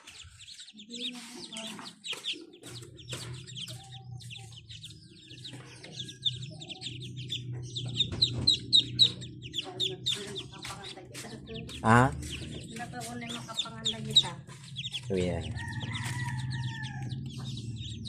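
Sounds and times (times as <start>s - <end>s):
ducklings peeping: 0.0s - 18.0s
steady low hum: 2.2s - 18.0s.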